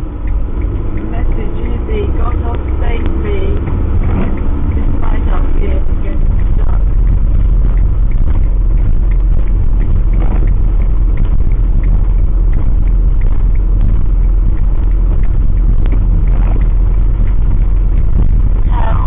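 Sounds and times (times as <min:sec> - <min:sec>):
engine and road noise rumble: 0:00.0 - 0:19.0
faint ticks: 0:00.0 - 0:19.0.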